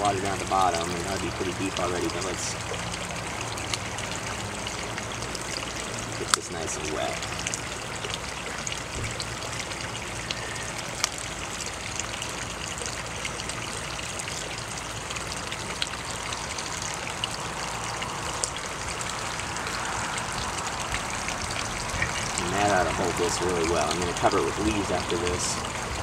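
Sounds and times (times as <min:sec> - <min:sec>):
water pouring into water: 0:00.0 - 0:26.0.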